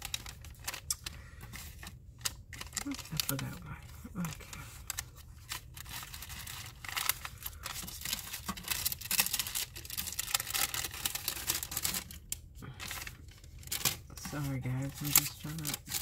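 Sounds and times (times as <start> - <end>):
paper and plastic packets rustling: 0.0 - 16.0.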